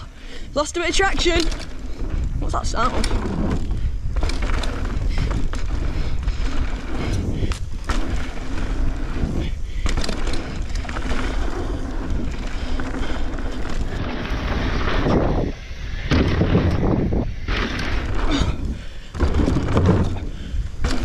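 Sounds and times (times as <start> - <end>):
tyres rumbling over dirt: 0.0 - 21.0
wind buffeting microphone: 0.0 - 21.0.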